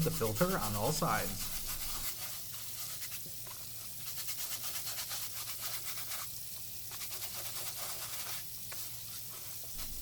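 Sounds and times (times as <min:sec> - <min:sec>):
brush scrubbing a filter: 0:00.0 - 0:10.0.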